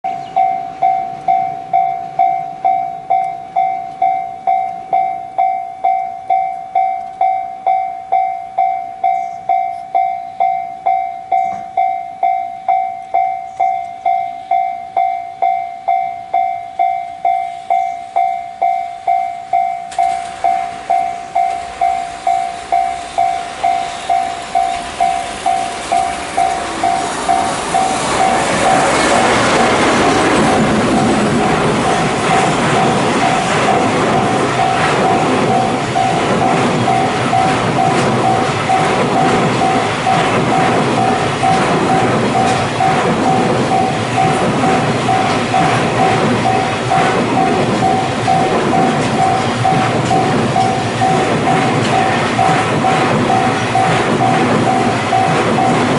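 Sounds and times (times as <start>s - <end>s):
approaching freight train: 0.0s - 55.9s
level-crossing warning bell ringing: 0.0s - 55.9s.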